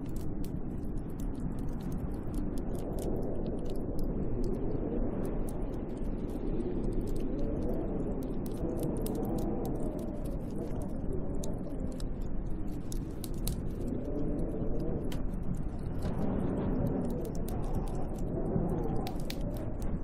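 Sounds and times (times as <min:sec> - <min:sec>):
faint ticks: 0:00.0 - 0:20.0
howling snowstorm wind: 0:00.0 - 0:20.0.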